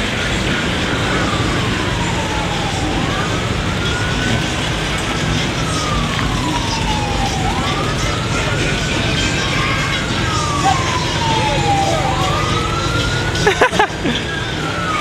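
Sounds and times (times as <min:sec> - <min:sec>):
emergency siren wailing: 0:00.0 - 0:15.0
loud background noise: 0:00.0 - 0:15.0.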